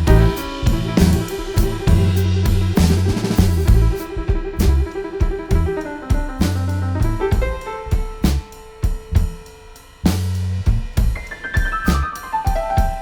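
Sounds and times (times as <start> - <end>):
drum kit beat: 0.0 - 13.0
held keyboard notes: 0.0 - 13.0.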